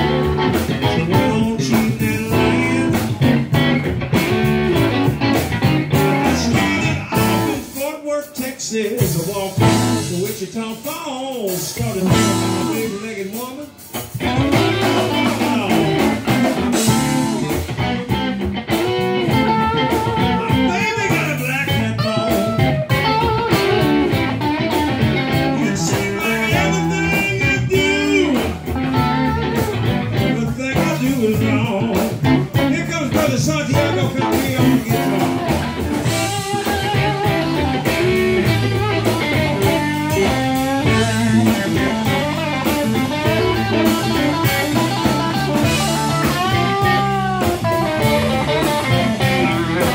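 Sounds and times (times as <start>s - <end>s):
electric guitars bending notes: 0.0s - 7.8s, 9.0s - 10.4s, 11.6s - 49.9s
live blues band playing: 0.0s - 49.9s.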